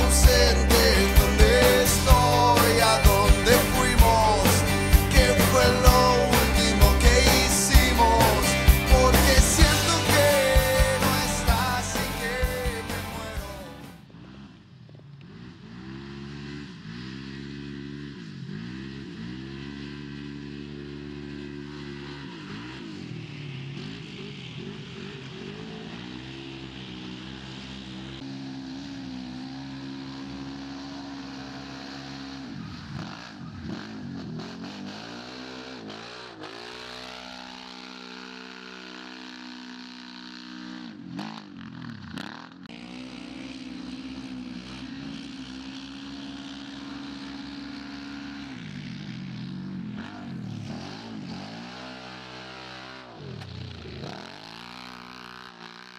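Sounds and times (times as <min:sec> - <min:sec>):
utility vehicle engine revving: 0:00.0 - 0:55.9.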